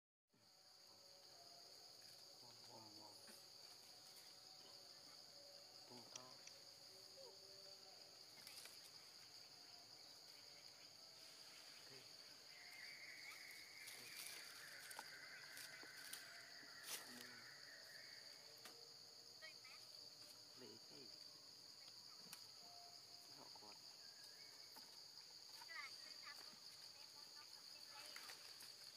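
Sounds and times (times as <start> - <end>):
high-pitched insect drone: 0.4 - 28.9
lower insect buzz: 0.4 - 28.9.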